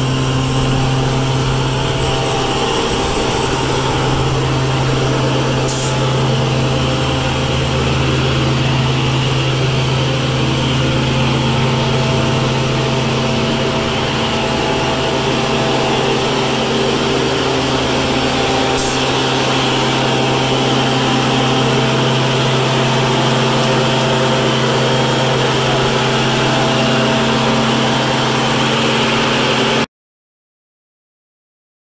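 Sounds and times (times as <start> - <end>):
vacuum loader engine and blower humming: 0.0 - 29.9.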